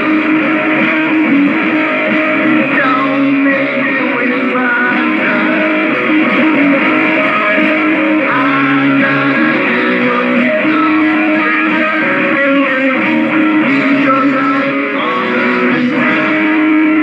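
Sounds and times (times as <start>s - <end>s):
rock band playing live: 0.0s - 17.0s
strummed electric guitar: 0.0s - 17.0s.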